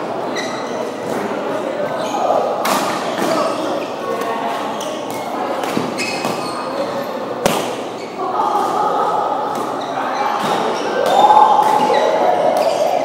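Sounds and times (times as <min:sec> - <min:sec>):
voices: 0:00.0 - 0:13.0.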